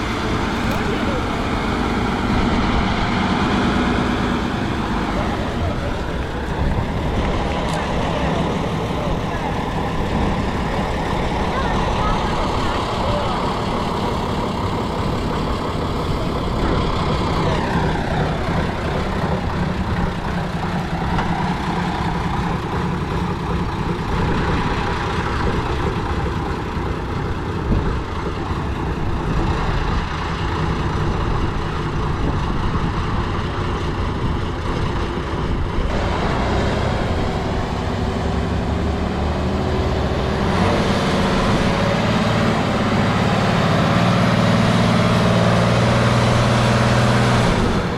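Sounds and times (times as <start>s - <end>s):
diesel truck engine under load: 0.0s - 47.9s.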